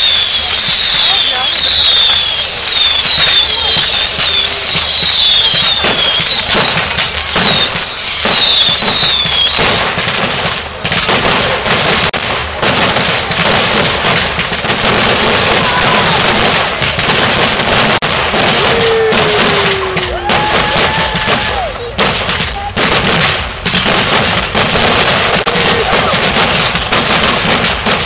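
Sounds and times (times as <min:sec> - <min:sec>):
fireworks crackling and popping: 0:00.0 - 0:28.0
whistling fireworks: 0:00.0 - 0:28.0.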